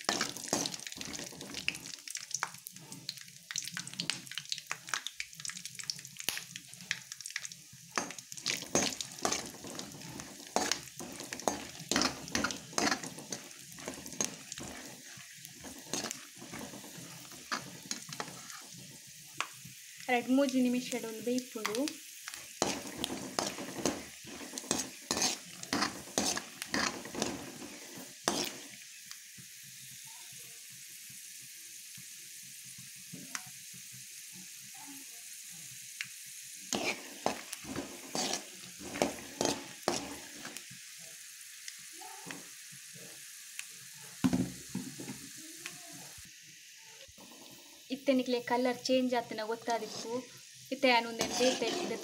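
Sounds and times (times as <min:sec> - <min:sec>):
peanuts sizzling in oil: 0:00.0 - 0:52.0.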